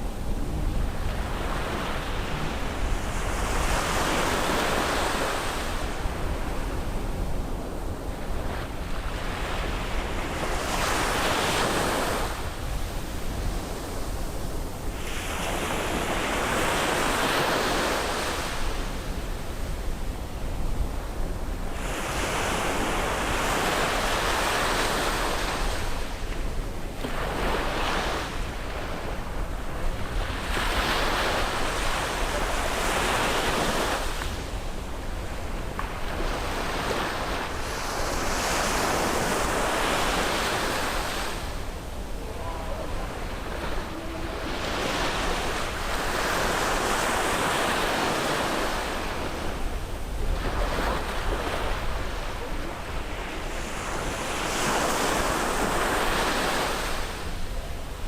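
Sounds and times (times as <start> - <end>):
sea waves breaking on shore: 0.0 - 58.0
wind rumble on microphone: 0.0 - 58.0.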